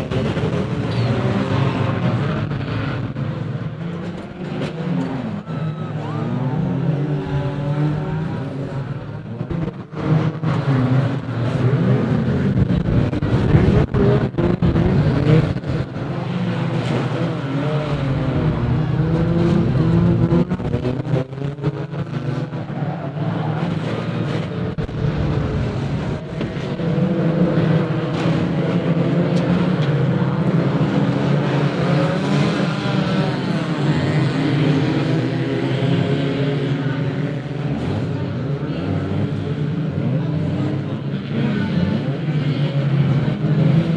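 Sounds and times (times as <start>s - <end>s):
racing car engines revving: 0.0s - 43.9s.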